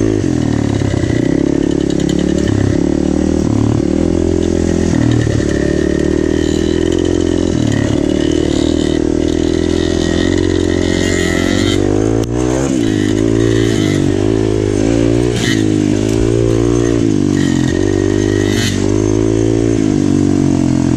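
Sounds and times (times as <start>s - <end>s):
dirt bike engine revving: 0.0s - 20.9s.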